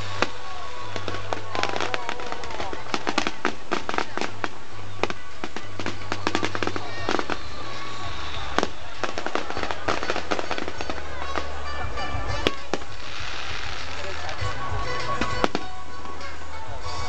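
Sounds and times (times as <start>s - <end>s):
fireworks bangs and crackles: 0.0s - 16.2s.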